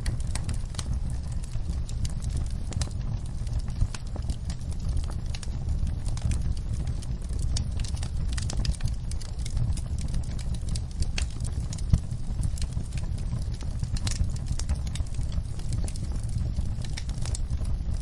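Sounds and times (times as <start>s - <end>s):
low rumble of flames: 0.0s - 18.0s
sharp pops of fire: 0.0s - 18.0s
wood fire crackling: 0.0s - 18.0s.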